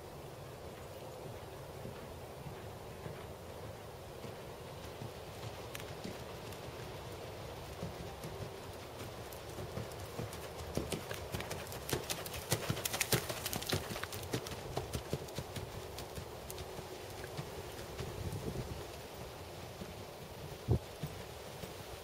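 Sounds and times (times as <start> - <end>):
horse hooves trotting on gravel: 0.4 - 22.0.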